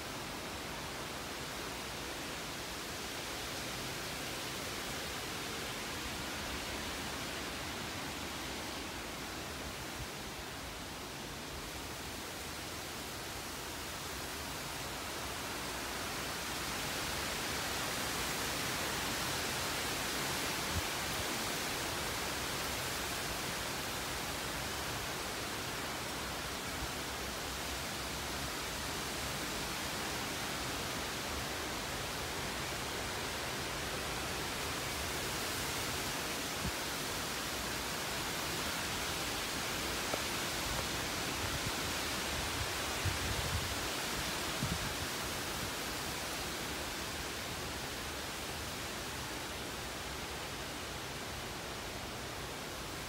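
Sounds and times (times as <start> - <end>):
wind and rain hiss: 0.0 - 53.0.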